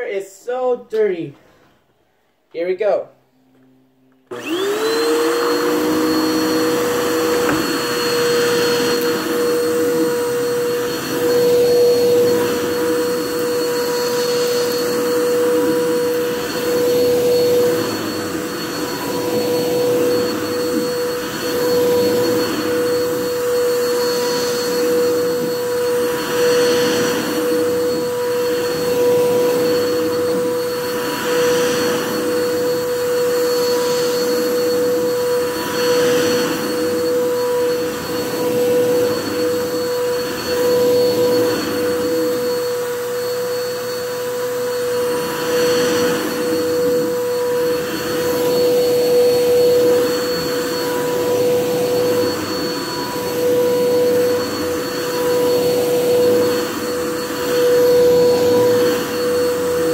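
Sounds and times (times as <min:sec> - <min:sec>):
vacuum cleaner running: 0:03.5 - 0:59.9.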